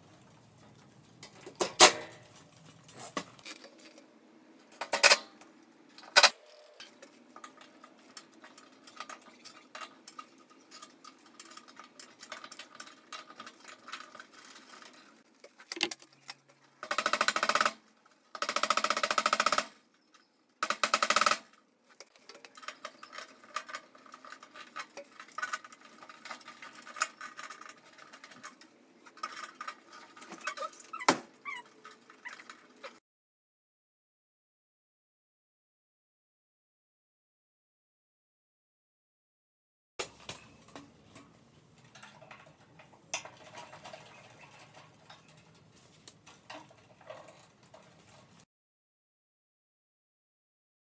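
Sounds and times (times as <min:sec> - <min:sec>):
rustling with small clicks: 0:00.1 - 0:33.0, 0:40.0 - 0:48.5.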